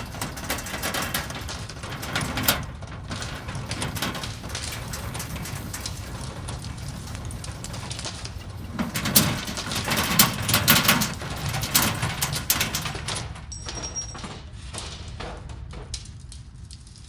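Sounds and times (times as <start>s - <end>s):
deep earthquake rumble: 0.0s - 16.8s
debris clattering and cracking: 0.0s - 17.0s.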